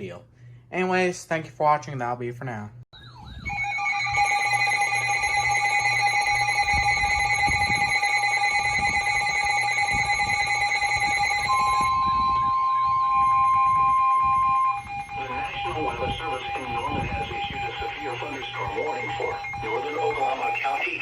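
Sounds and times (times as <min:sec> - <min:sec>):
electronic alarm tone: 0:02.9 - 0:21.0.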